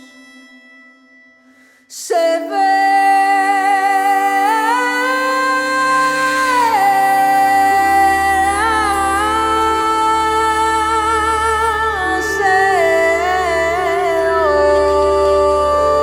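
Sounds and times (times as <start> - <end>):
woman singing long notes: 2.1 - 16.0
instrumental drone: 2.6 - 16.0.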